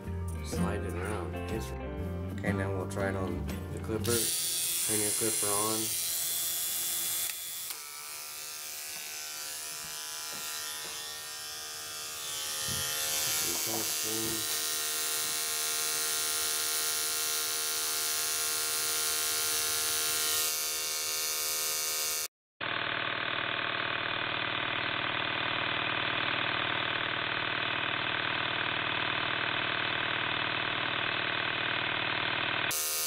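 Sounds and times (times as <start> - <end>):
hair clipper buzzing: 4.0 - 33.0.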